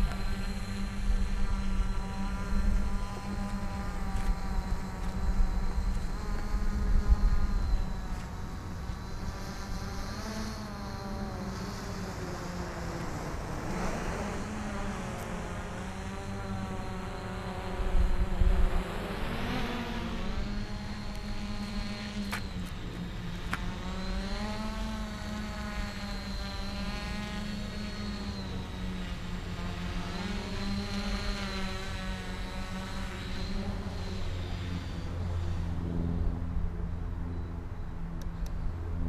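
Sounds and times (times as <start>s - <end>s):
quadcopter propellers buzzing: 0.0s - 39.0s.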